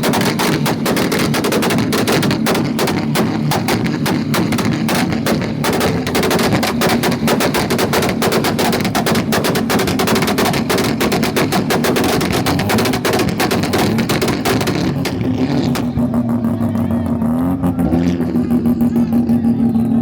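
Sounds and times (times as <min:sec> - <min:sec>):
car exhaust bangs and pops: 0:00.0 - 0:16.2.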